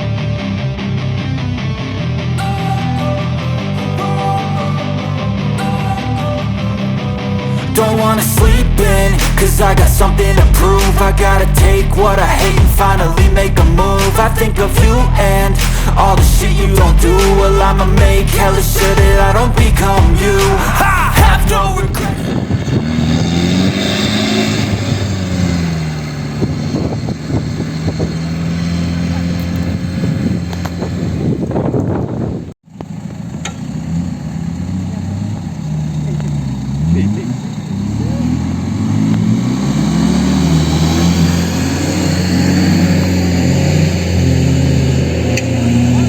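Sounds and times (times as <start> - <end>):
diesel pickup engine driving: 0.0 - 46.0.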